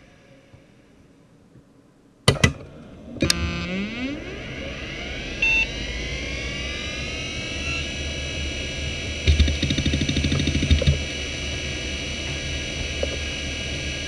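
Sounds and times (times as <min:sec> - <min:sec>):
steady low hum: 0:00.0 - 0:14.0
hard drive spinning up: 0:02.5 - 0:14.0.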